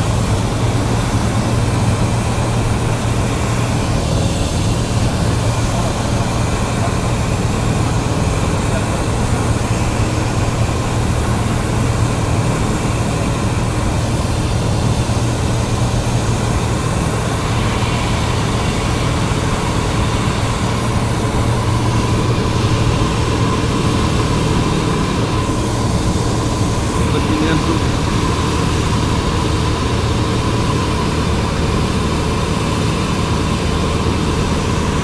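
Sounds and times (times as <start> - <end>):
airplane engine droning: 0.0 - 35.0
faint steady whine: 0.0 - 35.0.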